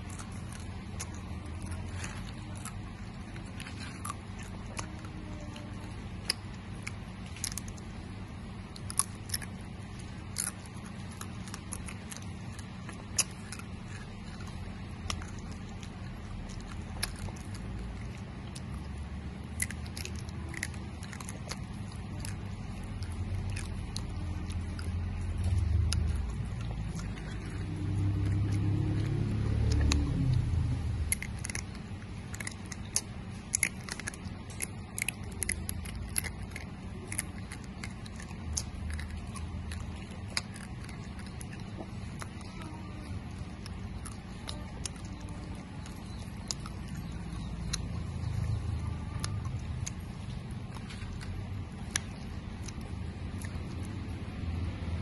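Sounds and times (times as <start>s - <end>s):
low rumble: 0.0s - 55.0s
mouth clicks and smacks chewing: 0.0s - 55.0s.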